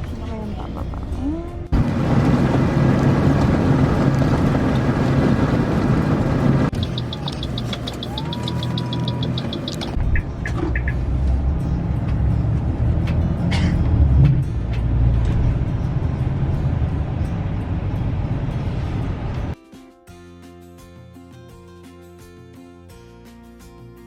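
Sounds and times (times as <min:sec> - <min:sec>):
bus engine and road noise: 0:00.0 - 0:19.6.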